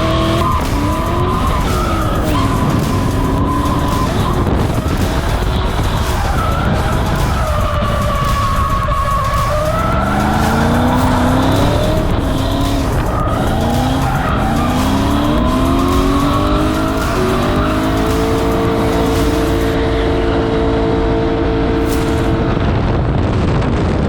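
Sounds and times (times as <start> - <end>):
tyres squealing and skidding: 0.0 - 20.2
car engine revving hard: 0.0 - 22.9.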